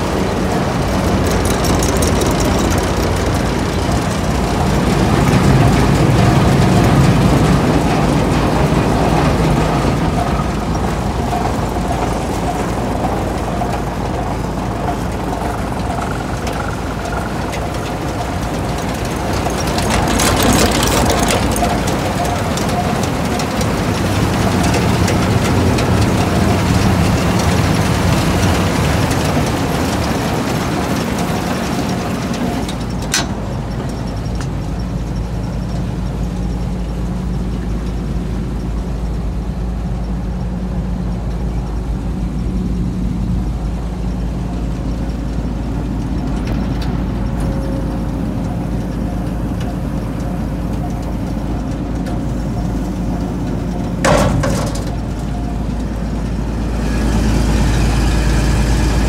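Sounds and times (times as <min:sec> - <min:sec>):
combine engine idling: 0:00.0 - 0:59.0.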